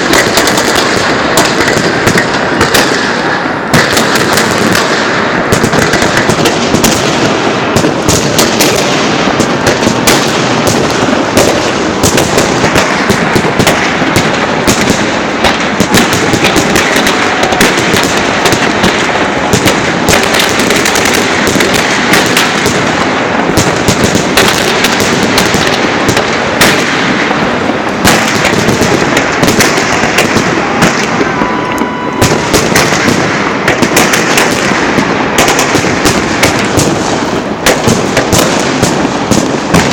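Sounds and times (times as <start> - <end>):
fireworks barrage bangs and crackling: 0.0 - 39.9.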